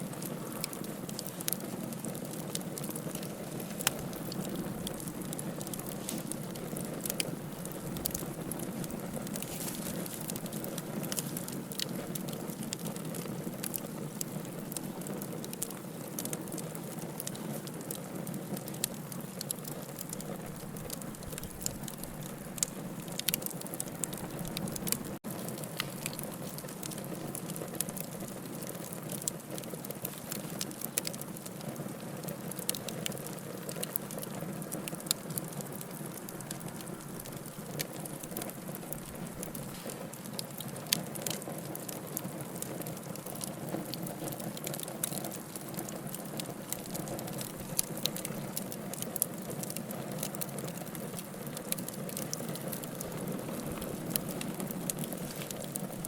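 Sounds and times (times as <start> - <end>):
wood crackling and popping: 0.0 - 56.0
fire flames rushing: 0.1 - 29.3, 34.8 - 56.0.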